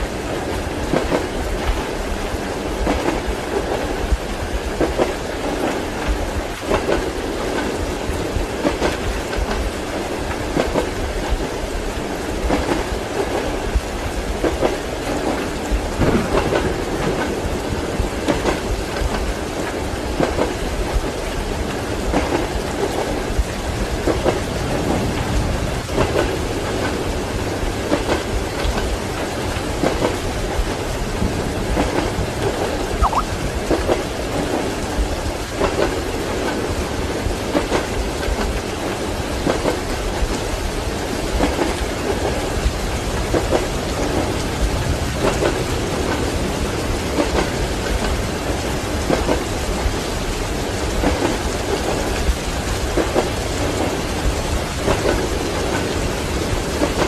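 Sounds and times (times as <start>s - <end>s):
rain hiss: 0.0s - 57.0s
train wheels clacking over rail joints: 0.4s - 11.5s, 12.4s - 32.7s, 33.7s - 57.0s.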